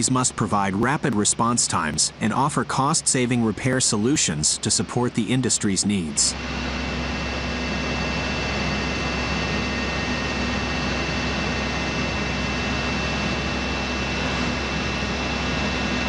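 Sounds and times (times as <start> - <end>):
thin high whine: 0.0 - 16.0.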